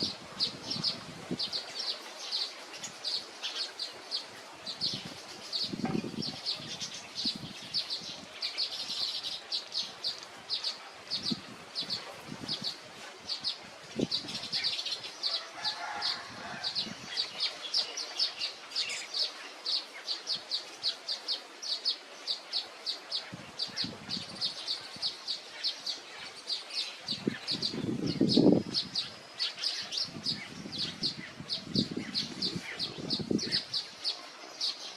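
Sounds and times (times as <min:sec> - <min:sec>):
warbler chirping: 0:00.0 - 0:34.9.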